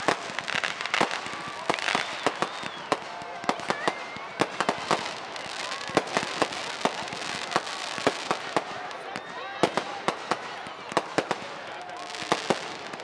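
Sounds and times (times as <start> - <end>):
fireworks bangs and pops: 0.0 - 13.0
fireworks crackling hiss: 0.0 - 13.0.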